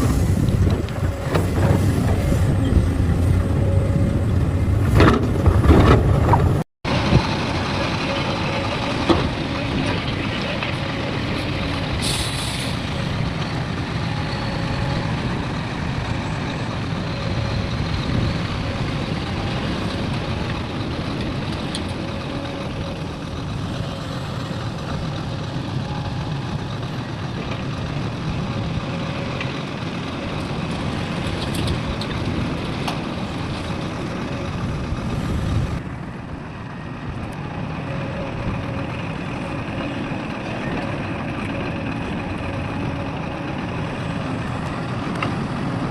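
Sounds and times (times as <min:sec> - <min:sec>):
heavy diesel engines rumbling: 0:00.0 - 0:45.9.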